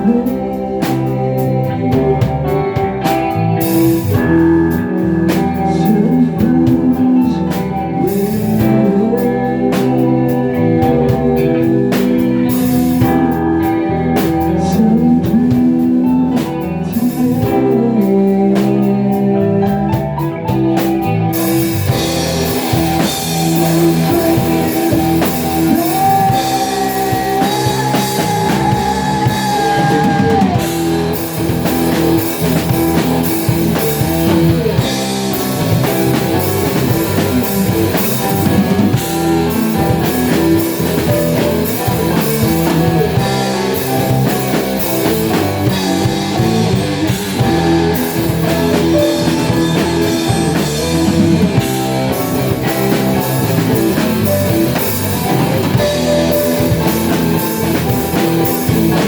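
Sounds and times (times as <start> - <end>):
electric guitar bending notes: 0.0 - 59.0
rock band playing: 0.0 - 59.0.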